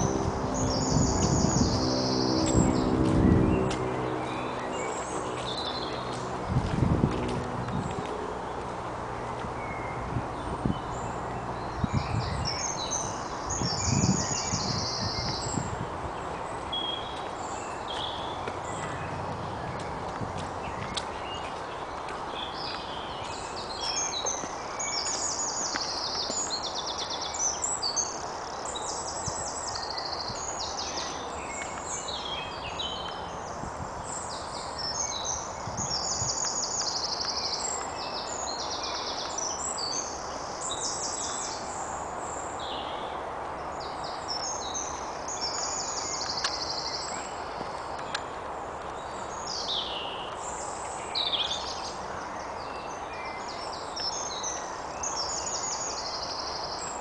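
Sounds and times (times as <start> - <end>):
songbirds trilling and chirping: 0.0 - 57.0.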